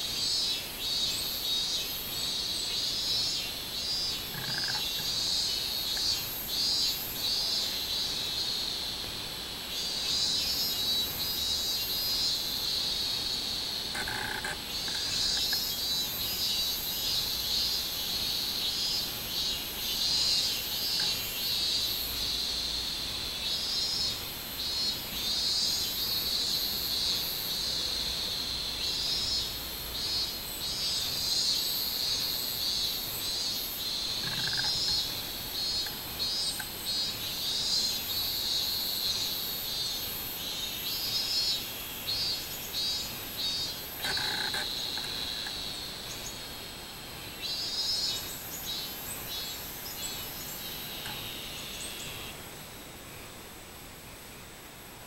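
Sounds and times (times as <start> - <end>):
cicadas singing: 0.0 - 53.4.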